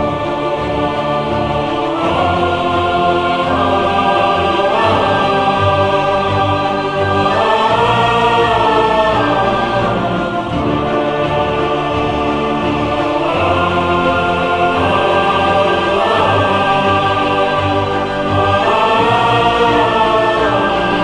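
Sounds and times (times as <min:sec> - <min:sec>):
music of sustained chords: 0:00.0 - 0:21.0.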